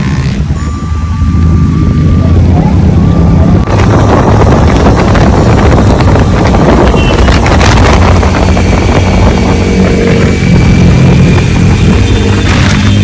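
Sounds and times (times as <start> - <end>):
motorcycles at speed: 0.0 - 13.0
wind rumble on microphone: 1.6 - 13.0.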